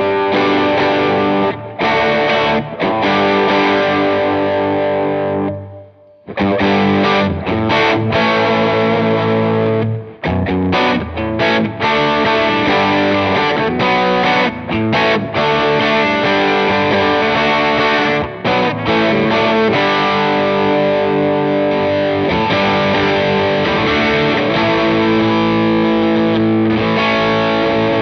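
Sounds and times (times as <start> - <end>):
choppy strummed guitar stabs: 0.0 - 28.0
overdriven electric guitar chords: 0.0 - 28.0.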